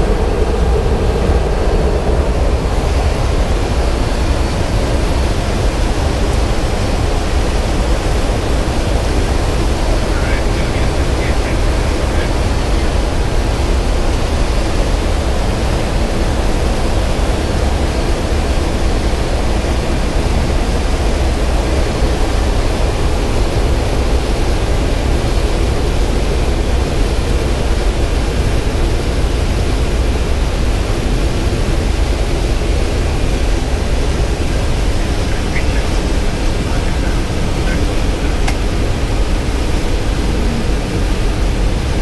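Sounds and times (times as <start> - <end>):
aircraft cockpit rumble and air hiss: 0.0 - 42.0.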